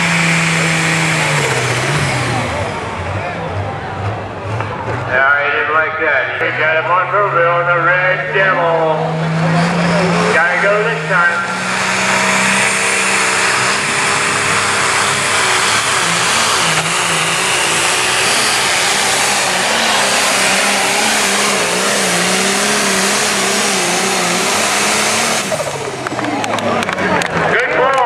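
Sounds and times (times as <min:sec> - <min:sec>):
diesel engine under heavy load: 0:00.0 - 0:28.0.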